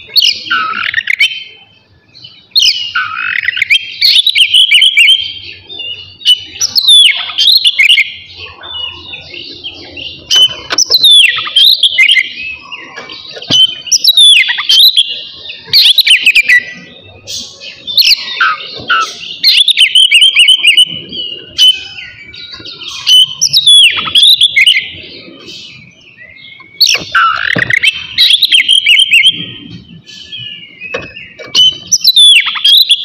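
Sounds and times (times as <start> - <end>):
bird singing whistles: 2.2 - 33.0.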